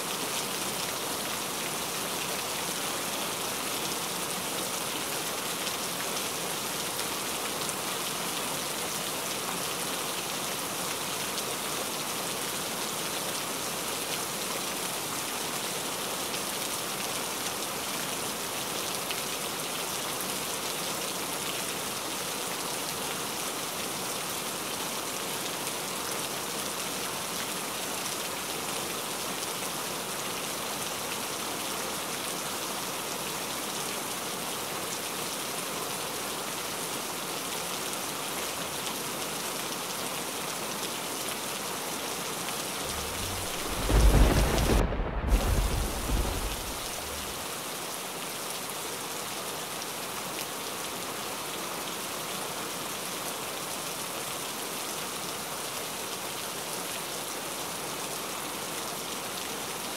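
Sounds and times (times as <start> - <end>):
rain falling on water: 0.0 - 59.9.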